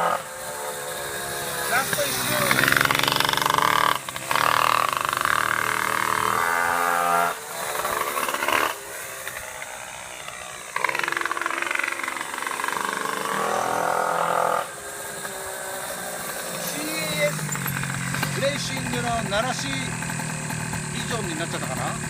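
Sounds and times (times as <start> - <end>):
two-stroke pocket bike engine revving: 0.0 - 22.0.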